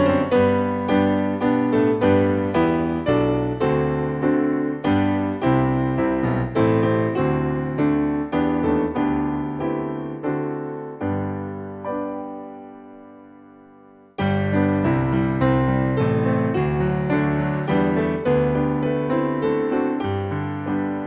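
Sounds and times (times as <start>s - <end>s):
gentle piano chords: 0.0s - 21.0s.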